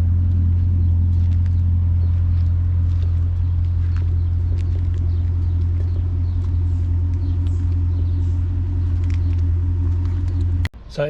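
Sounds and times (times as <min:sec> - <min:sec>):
car engine idling: 0:00.0 - 0:10.7.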